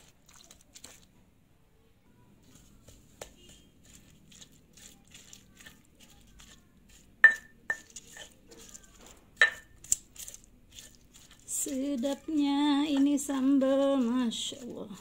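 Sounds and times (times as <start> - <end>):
pestle wet scraping: 0.0 - 1.1, 2.5 - 15.0.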